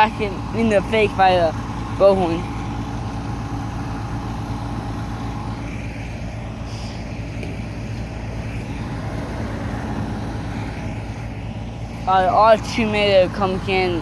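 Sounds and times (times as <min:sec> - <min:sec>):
faint road noise: 0:00.0 - 0:14.0
truck engine idling: 0:00.0 - 0:14.0.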